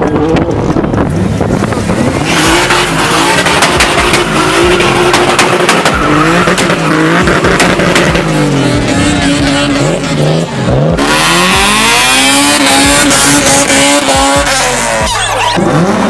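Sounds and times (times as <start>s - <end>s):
car engine revving: 0.0s - 16.0s
tires squealing and skidding: 1.4s - 16.0s.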